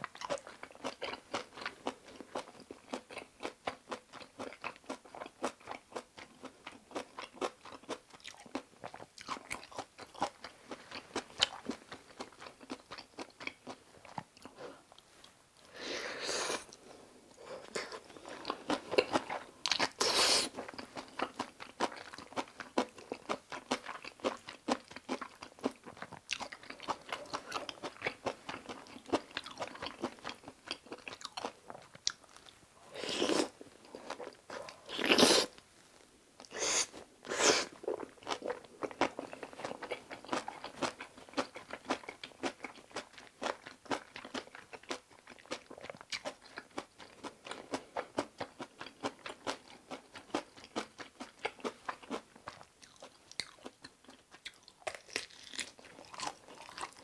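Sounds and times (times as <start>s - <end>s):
person chewing food: 0.0s - 35.6s, 36.4s - 57.0s.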